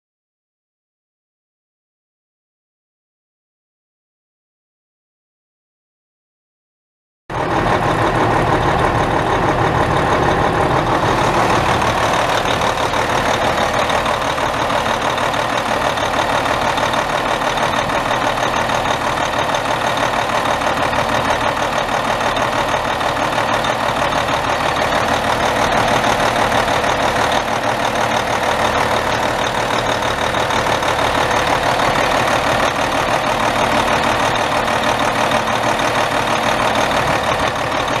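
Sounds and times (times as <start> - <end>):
truck diesel engine idling: 7.3 - 38.0.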